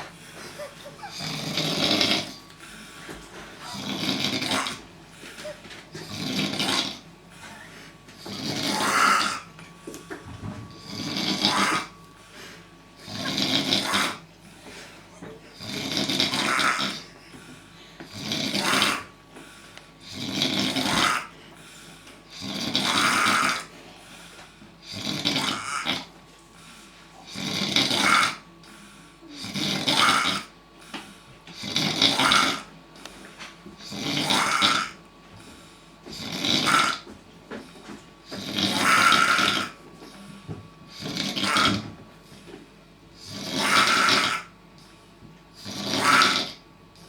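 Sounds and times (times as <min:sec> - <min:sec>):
loud regular snoring: 0:00.0 - 0:09.5, 0:10.6 - 0:14.8, 0:15.5 - 0:33.1, 0:33.8 - 0:37.1, 0:38.3 - 0:39.8, 0:40.9 - 0:42.0, 0:43.2 - 0:44.6, 0:45.6 - 0:46.6.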